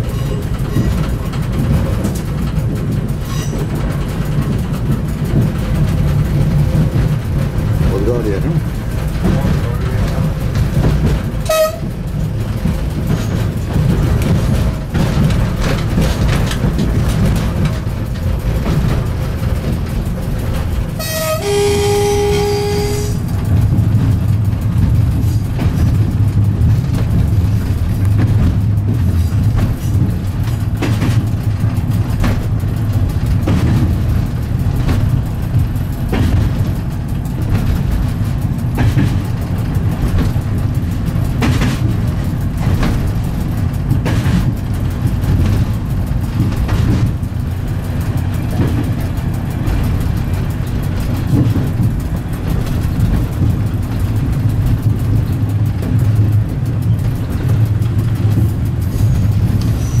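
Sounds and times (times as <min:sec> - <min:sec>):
diesel engine drone: 0:00.0 - 1:00.0
wheels clicking over rail joints: 0:00.0 - 1:00.0.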